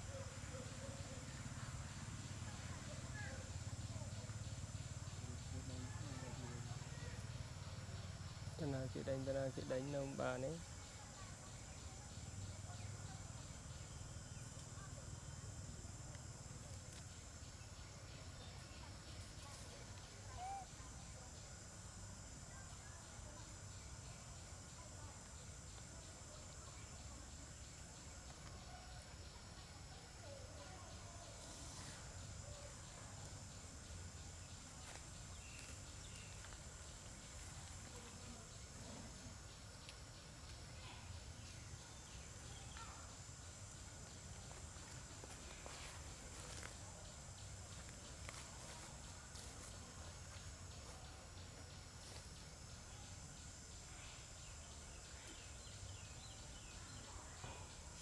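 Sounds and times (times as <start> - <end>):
faint bird chirps: 0.0 - 15.7, 16.6 - 58.0
high insect drone: 0.0 - 58.0.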